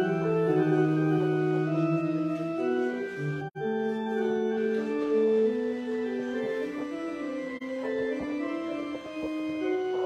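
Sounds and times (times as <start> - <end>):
organ playing slow chords: 0.0 - 10.0.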